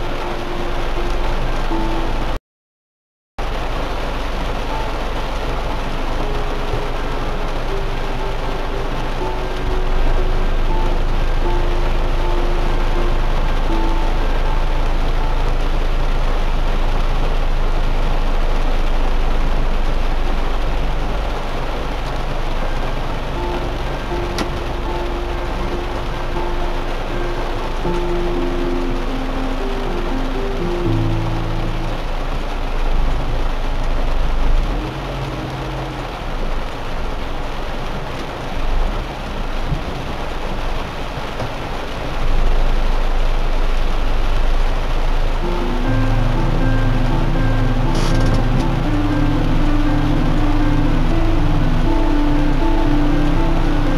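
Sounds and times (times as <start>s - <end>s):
heavy rain on car roof: 0.0s - 2.4s, 3.4s - 53.9s
vehicle low rumble: 0.0s - 2.4s, 3.4s - 53.9s.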